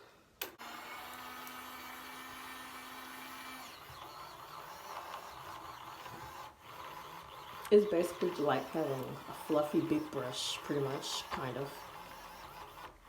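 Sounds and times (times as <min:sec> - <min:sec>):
small electric motor humming: 0:00.5 - 0:13.0.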